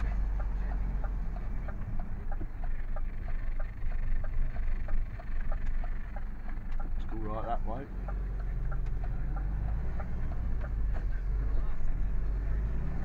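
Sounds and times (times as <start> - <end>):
lorry engine rumble: 0.0 - 13.0
turn indicator ticking: 0.0 - 13.0.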